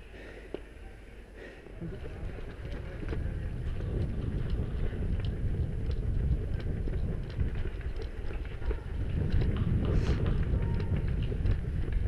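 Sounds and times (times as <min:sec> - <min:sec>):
wind rumbling on microphone: 0:01.7 - 0:12.0
running footsteps on dry leaves: 0:01.8 - 0:12.0.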